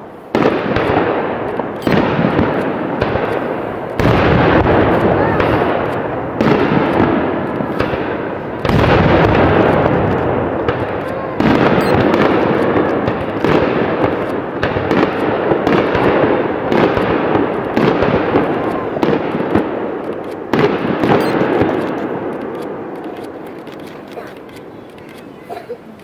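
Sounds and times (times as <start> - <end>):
fireworks booming: 0.0 - 26.0
fireworks crackling: 0.0 - 26.0.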